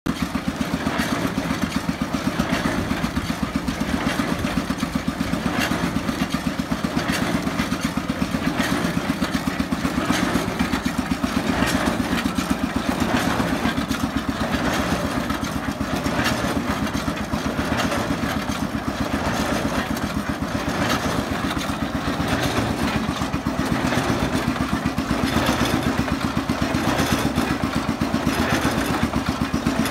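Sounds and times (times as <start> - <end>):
stationary engine running: 0.1 - 29.9.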